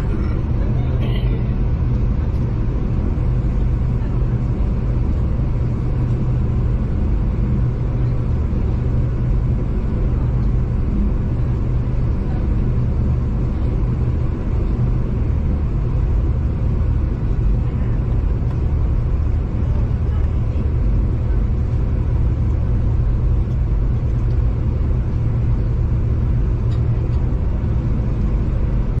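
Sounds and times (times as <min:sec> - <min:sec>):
faint engine drone: 0:00.0 - 0:29.0
passenger train rumbling: 0:00.0 - 0:29.0.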